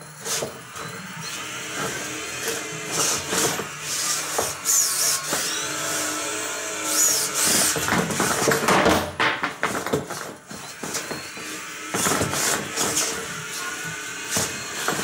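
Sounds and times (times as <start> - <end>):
robot spinning disc whining: 0.0 - 7.8, 10.4 - 15.0.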